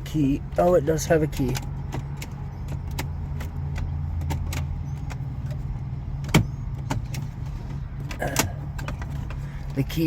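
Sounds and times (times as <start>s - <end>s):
key rattling in ignition: 0.0s - 10.0s.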